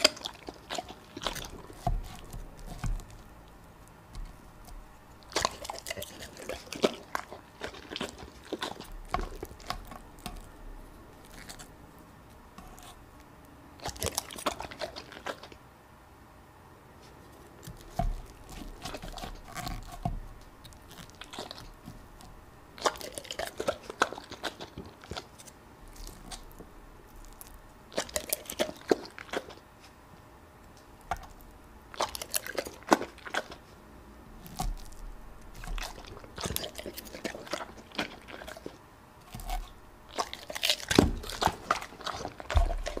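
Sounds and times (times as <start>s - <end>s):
dog chewing food: 0.0s - 15.6s, 17.3s - 29.9s, 31.1s - 43.0s.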